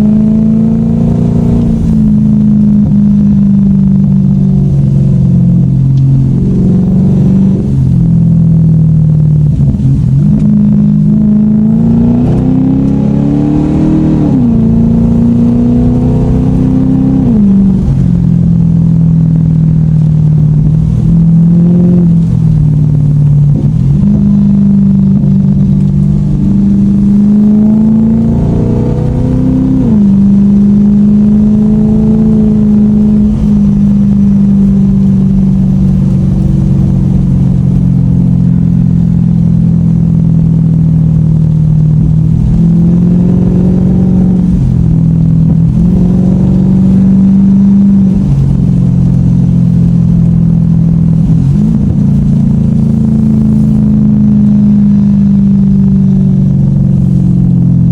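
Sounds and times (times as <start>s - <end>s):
car engine accelerating through gears: 0.0s - 57.9s.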